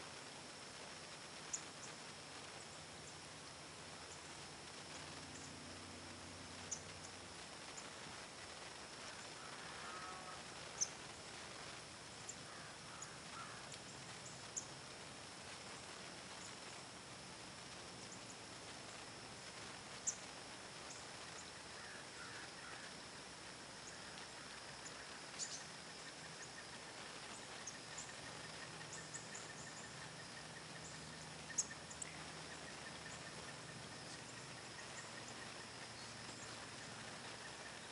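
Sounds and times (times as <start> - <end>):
high insect-like tone: 0.0 - 37.9.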